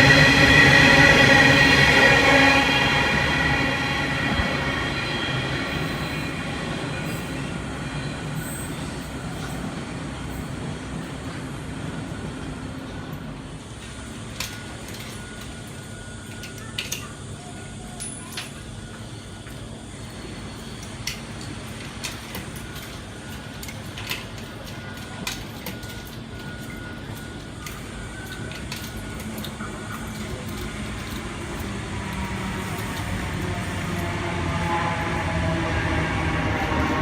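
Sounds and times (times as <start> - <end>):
train rumble and wheel noise: 0.0 - 37.0.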